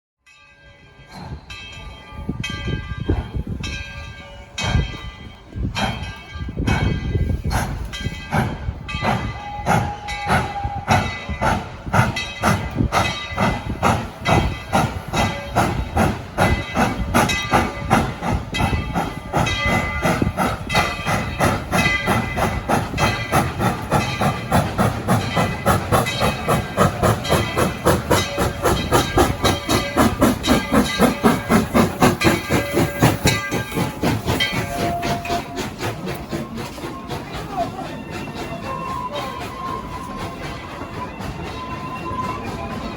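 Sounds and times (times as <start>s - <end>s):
steam locomotive exhaust beats: 0.9s - 42.9s
steam hissing: 6.7s - 42.9s.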